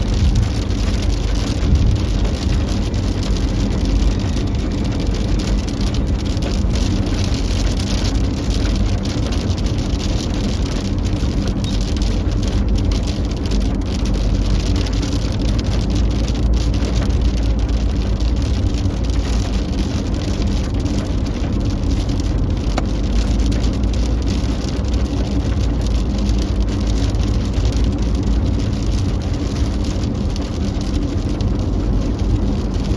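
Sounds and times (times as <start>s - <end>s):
heavy rain on a car: 0.0s - 32.9s
road and engine drone: 0.0s - 32.9s.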